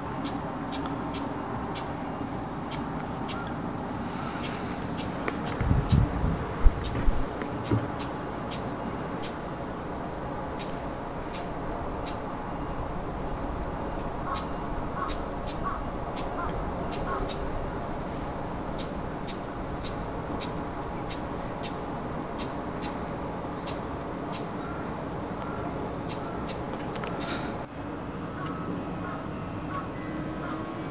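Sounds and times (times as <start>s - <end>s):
outdoor background noise: 0.0s - 30.9s.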